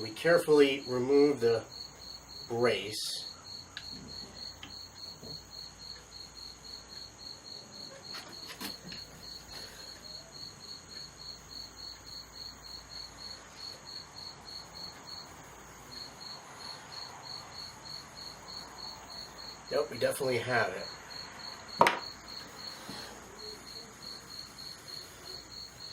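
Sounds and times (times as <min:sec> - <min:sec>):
cricket chirping: 0:00.0 - 0:25.9.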